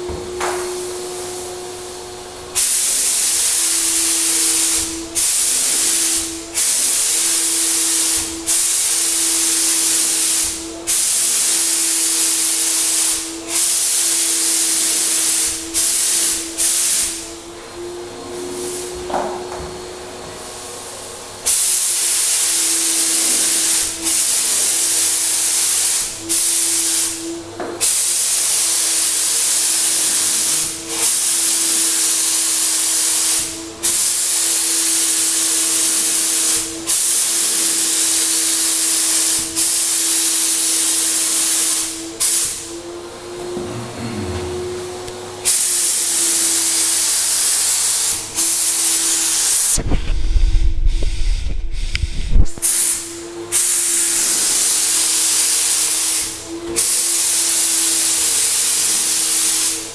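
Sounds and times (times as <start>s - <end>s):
paint sprayer turbine humming: 0.0s - 59.9s
spray gun hissing: 0.5s - 17.4s, 18.5s - 19.1s, 20.4s - 27.2s, 27.8s - 42.8s, 45.4s - 49.9s, 50.8s - 59.9s.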